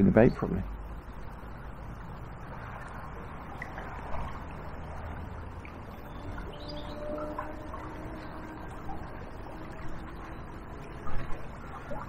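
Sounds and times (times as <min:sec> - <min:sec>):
river current rushing: 0:00.7 - 0:12.0.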